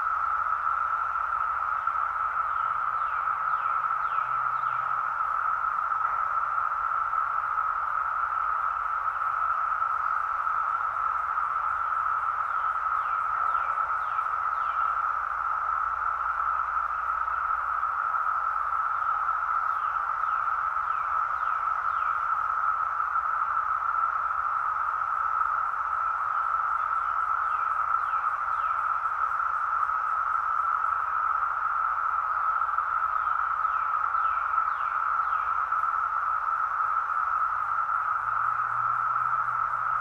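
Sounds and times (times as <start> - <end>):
cicadas droning: 0.0 - 40.0.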